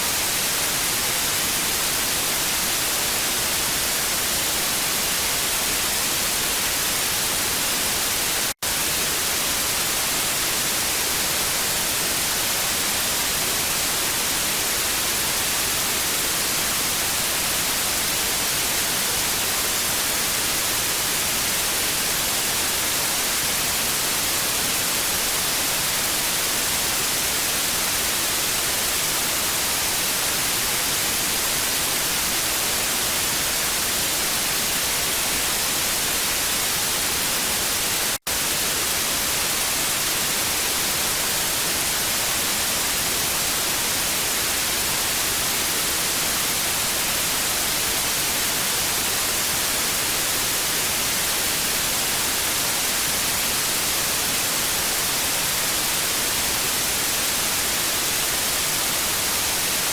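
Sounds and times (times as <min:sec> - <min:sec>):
tv static hiss: 0:00.0 - 0:59.9.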